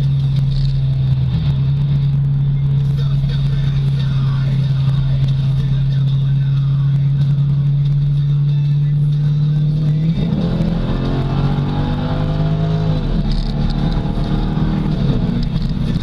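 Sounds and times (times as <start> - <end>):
car engine in cabin: 0.0 - 16.0.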